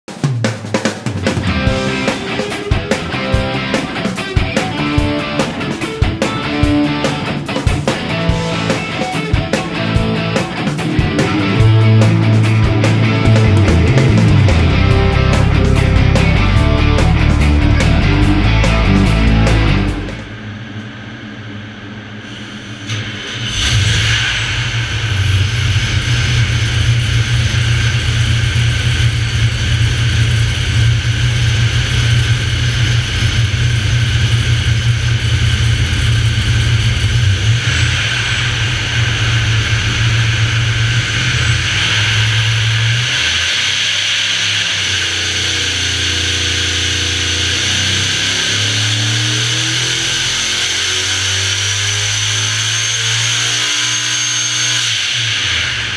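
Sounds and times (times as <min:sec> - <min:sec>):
supercharged engine running: 0:00.0 - 0:55.9.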